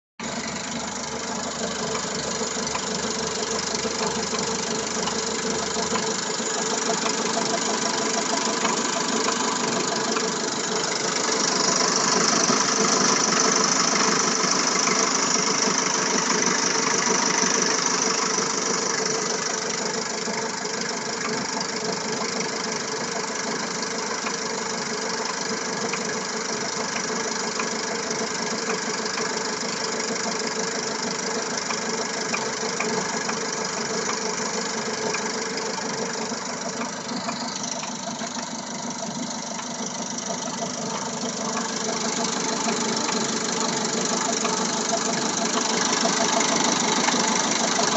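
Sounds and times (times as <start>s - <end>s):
car engine idling with knock: 0.2s - 47.9s.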